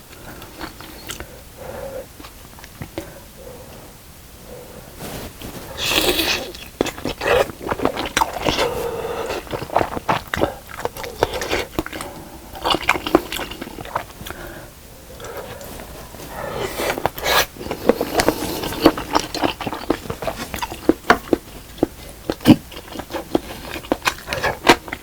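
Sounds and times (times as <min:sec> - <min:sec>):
person chewing and crunching: 0:00.0 - 0:01.4, 0:02.1 - 0:03.1, 0:05.0 - 0:14.5, 0:15.1 - 0:25.0.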